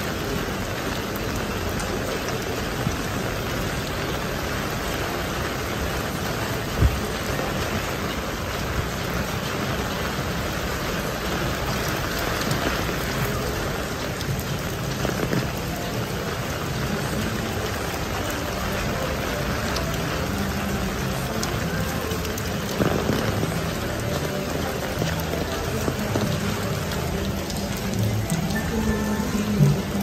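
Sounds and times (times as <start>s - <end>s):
heavy rain on wet paving: 0.0s - 30.0s.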